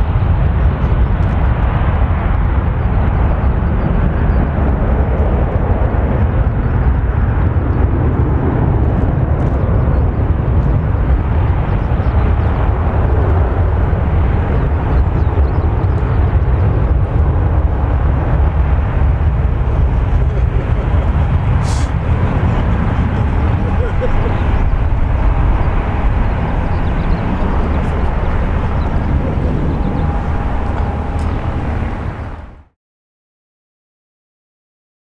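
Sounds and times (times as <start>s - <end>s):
jet engines rumbling: 0.0s - 32.7s.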